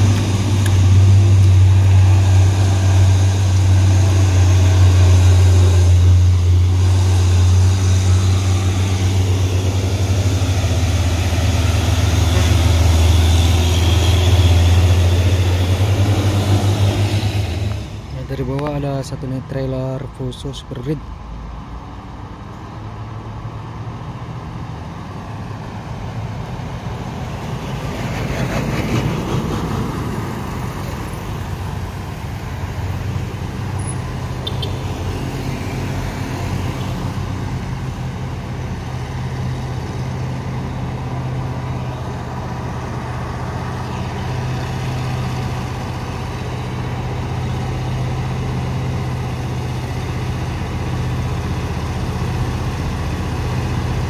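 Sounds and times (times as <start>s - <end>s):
vehicle passing by: 0.0s - 18.3s, 25.2s - 54.0s
deep truck engine under load: 0.0s - 20.0s, 23.7s - 54.0s.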